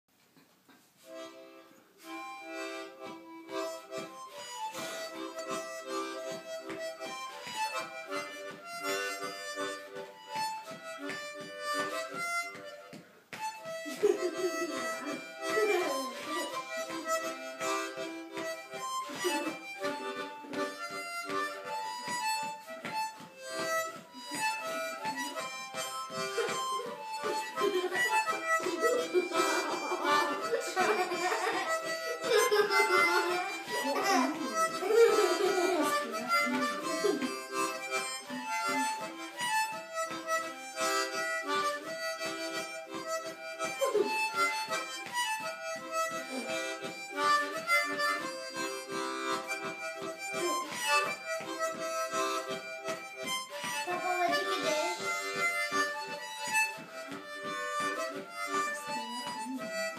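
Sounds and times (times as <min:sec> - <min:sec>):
harmonica rhythmic chords: 0:00.4 - 0:59.9.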